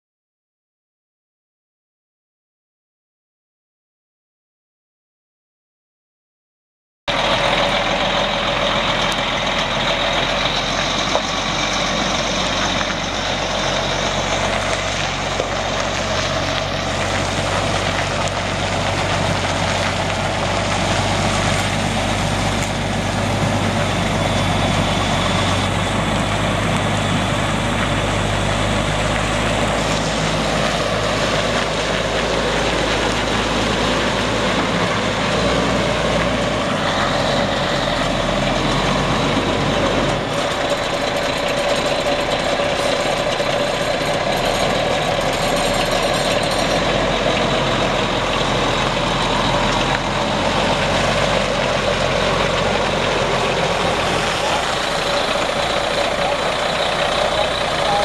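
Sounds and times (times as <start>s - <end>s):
diesel truck engine running: 7.1s - 58.0s.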